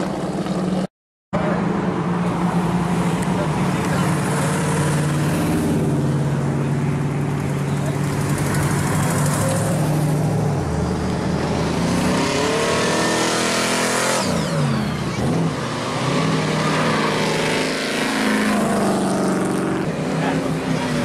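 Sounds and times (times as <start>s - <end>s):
cars driving past loudly: 0.0s - 21.0s.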